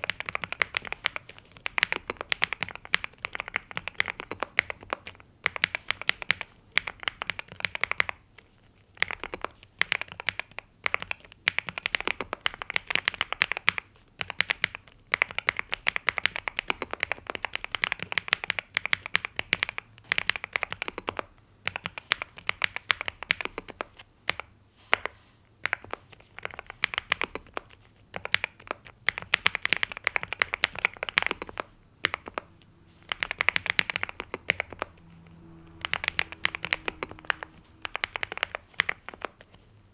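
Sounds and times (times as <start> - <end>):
mechanical keyboard typing: 0.0 - 8.3, 8.9 - 39.6.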